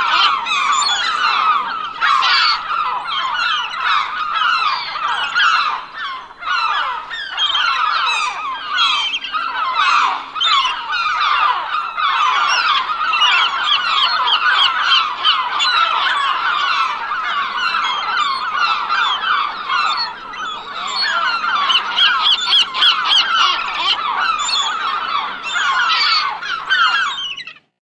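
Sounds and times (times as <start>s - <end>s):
seagulls calling: 0.0s - 27.7s.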